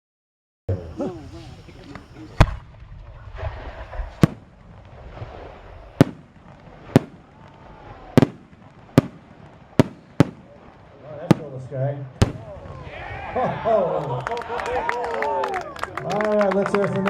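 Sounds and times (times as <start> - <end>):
fireworks bangs: 0.7 - 17.0.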